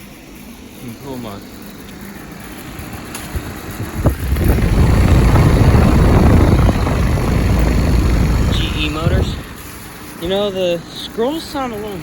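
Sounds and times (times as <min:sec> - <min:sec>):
heat pump fan and compressor running: 0:00.0 - 0:12.0.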